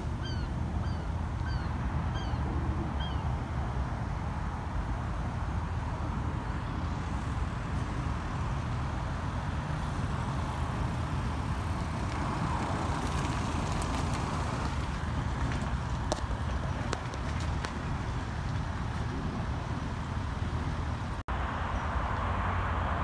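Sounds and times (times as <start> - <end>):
road traffic noise: 0.0 - 23.0
vehicle passing: 0.0 - 23.0
wind rumbling on microphone: 0.0 - 23.0.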